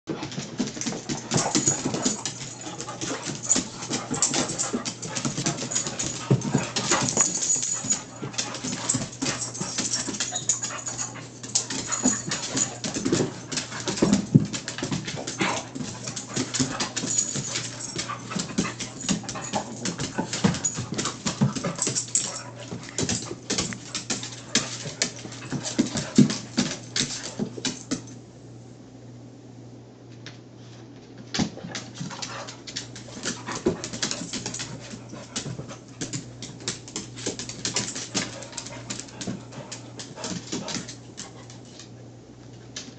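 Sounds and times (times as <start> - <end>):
claws scrabbling on hardwood floor: 0.1 - 28.1, 31.6 - 41.9
dogs play-fighting: 0.1 - 28.2, 31.3 - 42.9.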